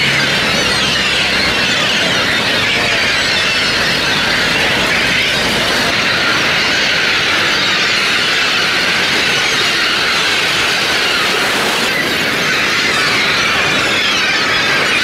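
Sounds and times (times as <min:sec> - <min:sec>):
flock of gulls calling: 0:00.0 - 0:15.0.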